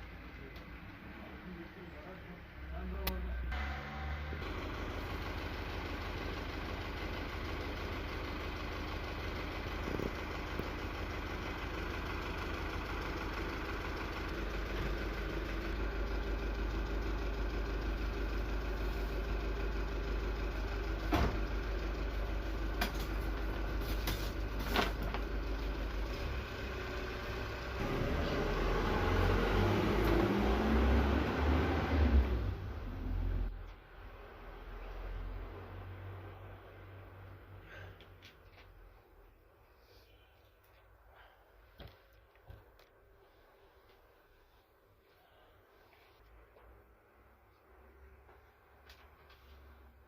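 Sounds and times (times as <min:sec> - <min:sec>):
engine idling hum: 0:00.0 - 0:50.0.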